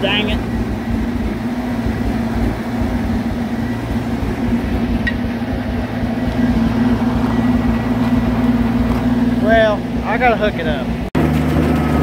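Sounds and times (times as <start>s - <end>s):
tractor engine running steadily: 0.0s - 12.0s.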